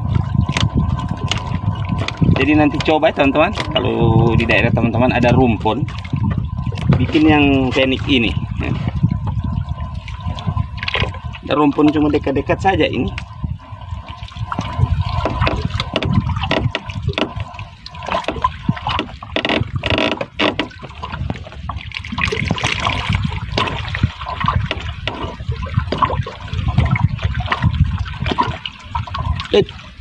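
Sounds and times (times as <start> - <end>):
water slapping boat hull: 0.0 - 30.0.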